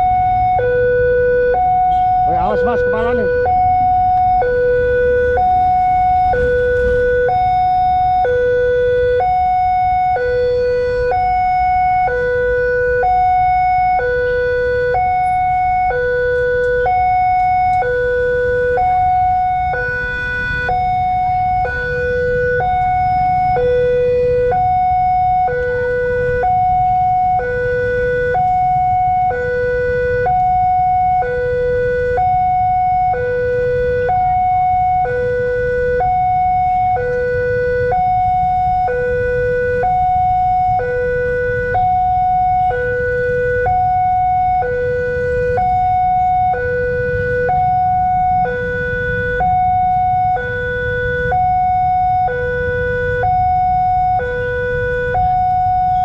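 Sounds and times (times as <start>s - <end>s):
two-tone warning siren: 0.0s - 56.0s.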